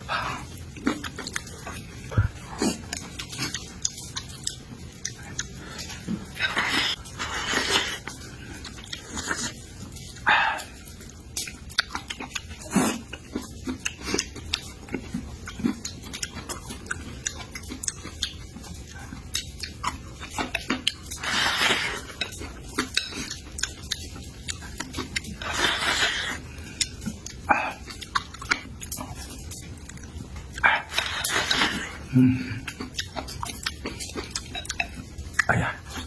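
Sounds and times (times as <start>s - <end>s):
chewing and eating: 0.0s - 36.0s.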